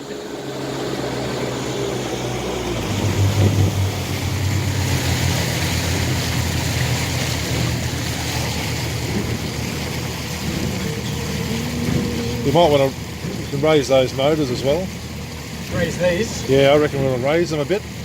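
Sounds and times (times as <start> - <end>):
outboard motors running: 0.0 - 18.0
water rushing: 0.0 - 18.0.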